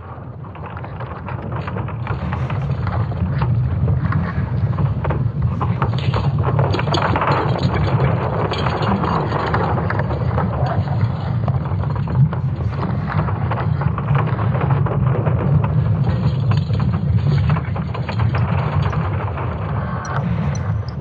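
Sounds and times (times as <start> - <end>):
low rumble with crackling: 0.0 - 21.0.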